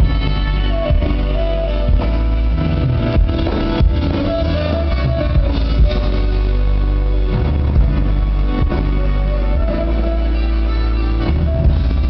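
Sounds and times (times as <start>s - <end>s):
live band playing pop: 0.0s - 12.0s.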